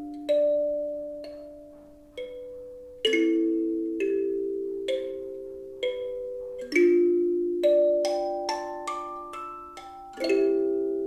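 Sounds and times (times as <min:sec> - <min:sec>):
kalimba melody: 0:00.0 - 0:11.0.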